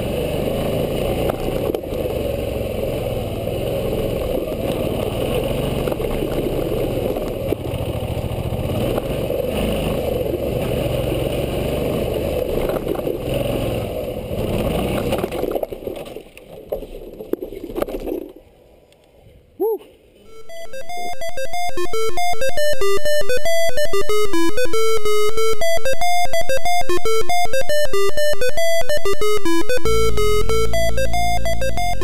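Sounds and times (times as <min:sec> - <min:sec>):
motorcycle engine running: 0:00.0 - 0:16.6, 0:20.3 - 0:32.0.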